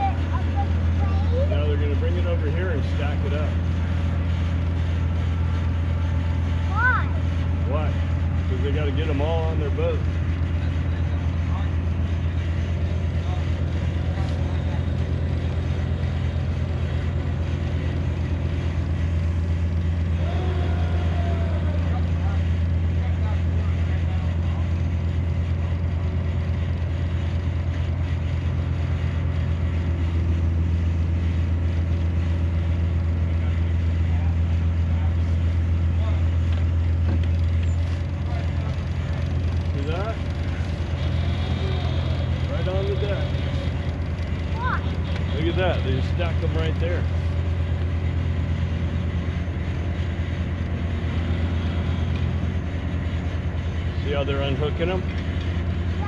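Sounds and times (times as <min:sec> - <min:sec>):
large engine droning: 0:00.0 - 0:56.0.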